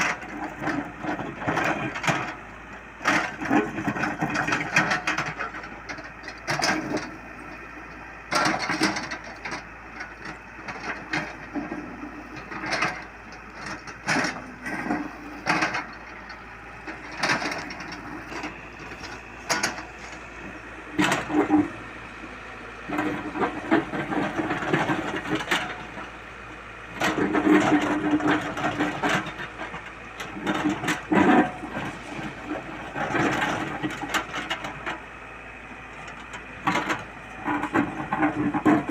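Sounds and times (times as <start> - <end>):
excavator engine surging: 0.0 - 38.9.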